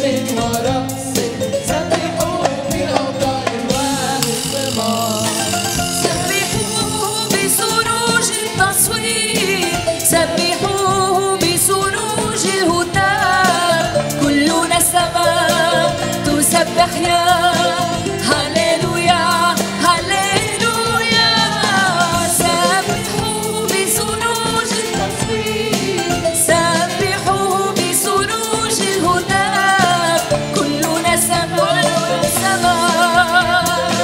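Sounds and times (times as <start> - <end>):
acoustic guitar: 0.0 - 34.0
backing singers: 0.0 - 34.0
bass guitar: 0.0 - 34.0
percussion: 0.0 - 34.0
woman singing ornamented melody: 1.7 - 34.0.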